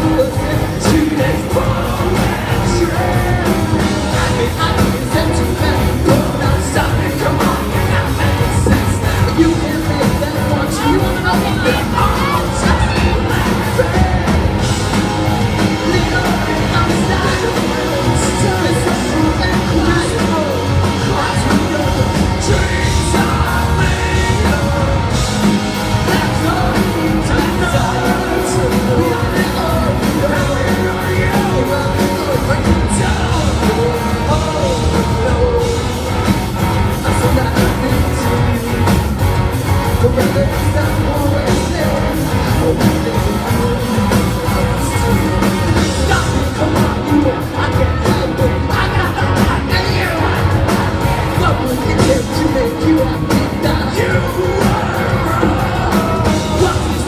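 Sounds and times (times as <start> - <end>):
person singing lead vocal: 0.0 - 57.0
rock band playing live: 0.0 - 57.0.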